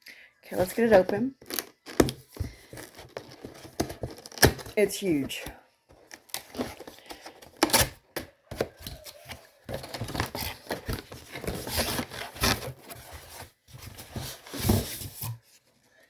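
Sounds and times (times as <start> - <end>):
cardboard box being opened: 0.6 - 5.4, 6.0 - 15.4.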